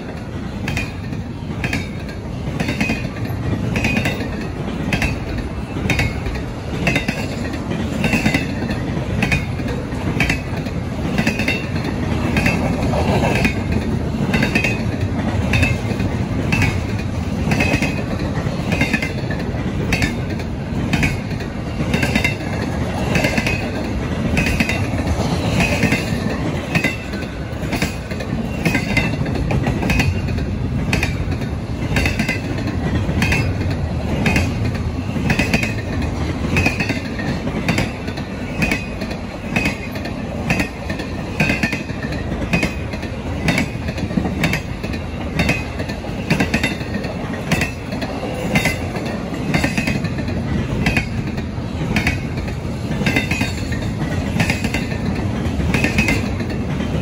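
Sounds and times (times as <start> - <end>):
freight train rumbling past: 0.0 - 57.0
wheels clickety-clack on track: 0.0 - 57.0.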